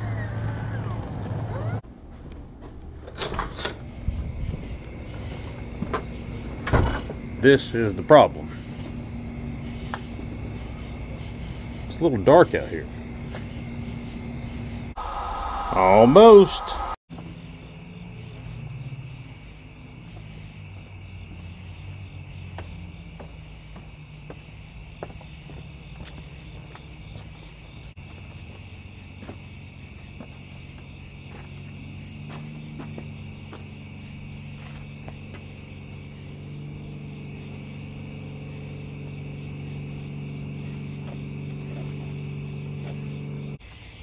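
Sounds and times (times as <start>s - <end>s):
crickets and insects droning: 0.0s - 44.0s.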